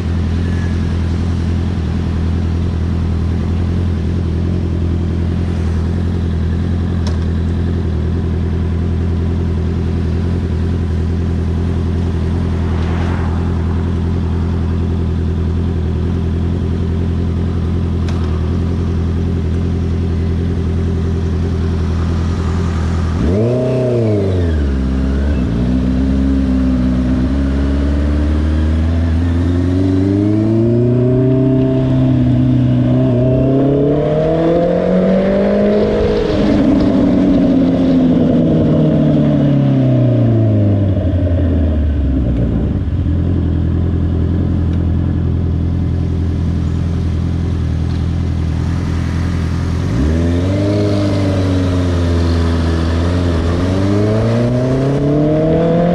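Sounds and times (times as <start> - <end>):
motorcycle engine idling and revving: 0.0 - 55.9.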